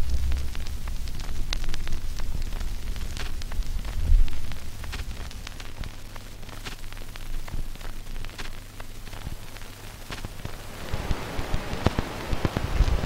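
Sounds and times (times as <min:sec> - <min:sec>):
crackling static: 0:00.0 - 0:13.0
low hum: 0:00.0 - 0:13.0.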